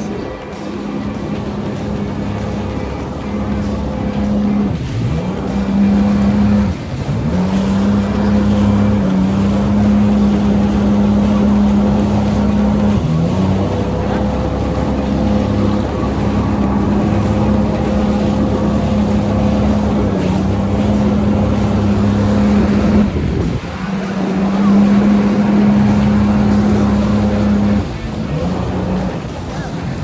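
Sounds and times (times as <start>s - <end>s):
jet ski engine running: 0.0s - 30.0s
wind on microphone: 0.0s - 30.0s.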